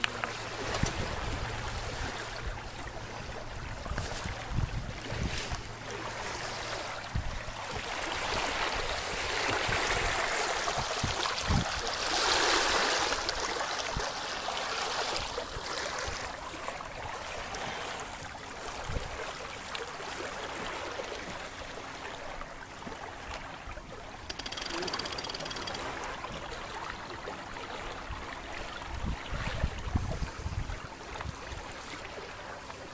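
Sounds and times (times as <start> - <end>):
water rushing along hull: 0.0 - 32.9.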